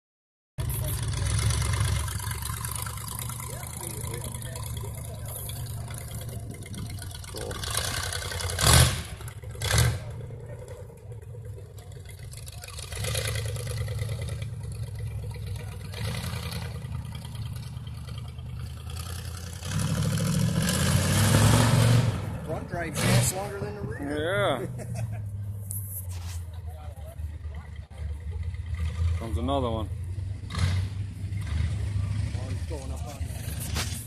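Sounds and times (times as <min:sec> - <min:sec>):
loud engine bursts: 0:00.6 - 0:24.8, 0:28.3 - 0:34.0
car engine running: 0:00.6 - 0:34.0.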